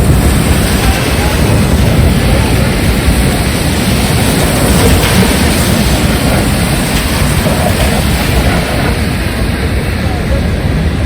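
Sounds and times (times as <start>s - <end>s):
heavy rain: 0.0s - 11.0s
wind buffeting microphone: 0.0s - 11.0s.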